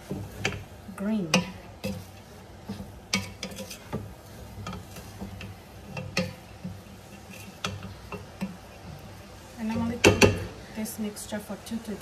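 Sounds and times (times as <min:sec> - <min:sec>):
wooden spatula scraping metal pot: 0:00.0 - 0:10.9.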